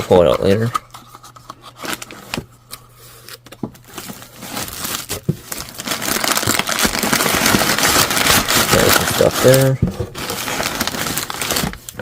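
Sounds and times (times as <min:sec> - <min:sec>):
packaging crinkling and rustling: 0:00.0 - 0:02.5, 0:03.2 - 0:12.0.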